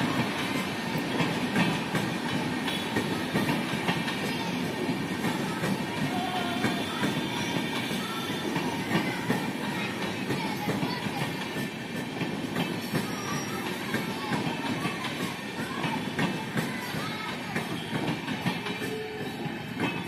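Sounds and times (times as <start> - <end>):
train wheels clattering over rail joints: 0.0 - 20.0.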